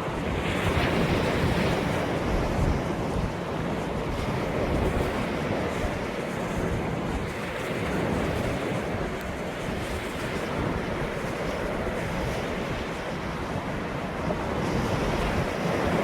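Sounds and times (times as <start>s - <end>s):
ocean waves breaking on shore: 0.0s - 16.0s
wind rumble on microphone: 0.0s - 16.0s.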